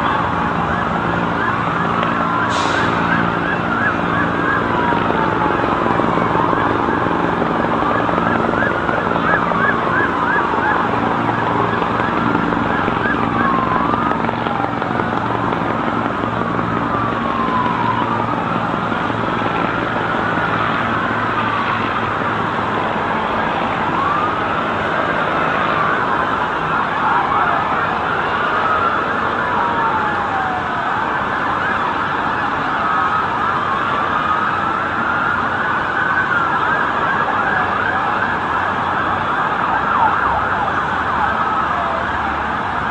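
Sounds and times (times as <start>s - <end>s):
emergency sirens wailing: 0.0s - 42.9s
low engine-like drone: 0.0s - 42.9s.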